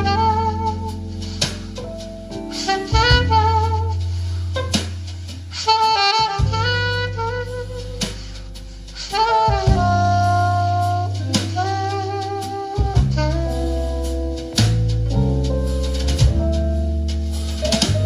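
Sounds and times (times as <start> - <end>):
deep bass notes: 0.0 - 18.0
drum hits: 0.0 - 18.0
instrumental jazz: 0.0 - 18.0
wind instrument melody: 0.0 - 18.0.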